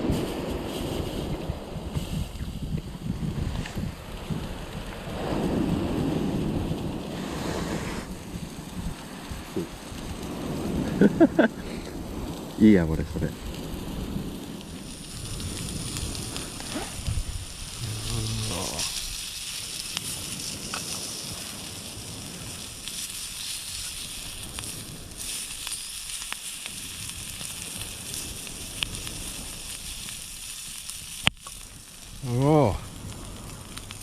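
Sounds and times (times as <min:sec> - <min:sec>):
fire crackles: 0:00.0 - 0:34.0
meat sizzling over wood fire: 0:00.0 - 0:34.0.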